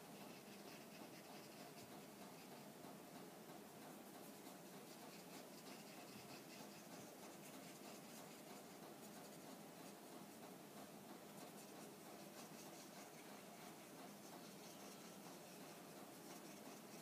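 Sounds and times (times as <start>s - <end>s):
brush scratching on paper: 0.0s - 2.8s, 3.9s - 10.5s, 11.2s - 17.0s
low room hiss: 0.0s - 17.0s.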